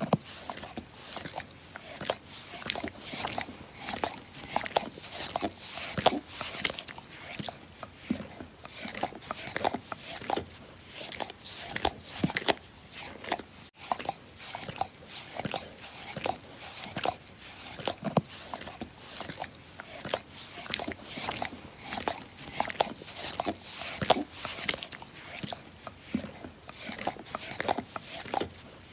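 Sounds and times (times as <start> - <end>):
dog licking: 0.1 - 10.5, 11.1 - 28.8.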